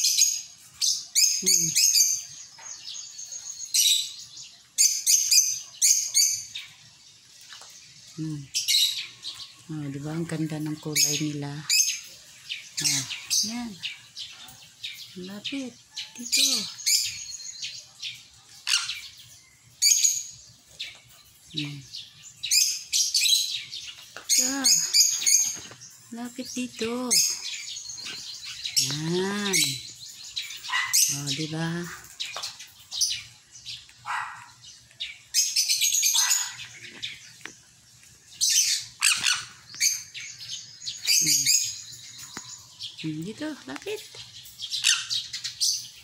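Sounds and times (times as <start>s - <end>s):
parrots chirping: 0.0s - 7.8s, 8.4s - 46.0s.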